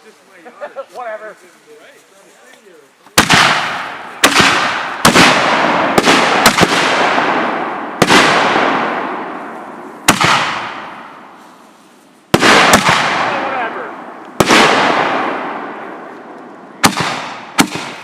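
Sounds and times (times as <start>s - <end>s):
fireworks crackle and hiss: 0.0s - 7.2s, 7.9s - 18.0s
fireworks bangs: 3.1s - 18.0s.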